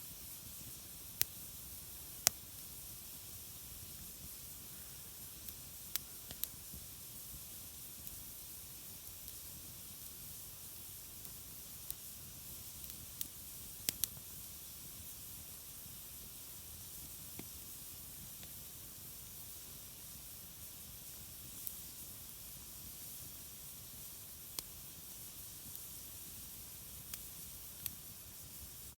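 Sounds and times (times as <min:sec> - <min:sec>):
steady high hiss: 0:00.0 - 0:28.9
campfire crackling and popping: 0:00.2 - 0:10.4, 0:11.1 - 0:16.0, 0:16.8 - 0:20.2, 0:21.0 - 0:28.9.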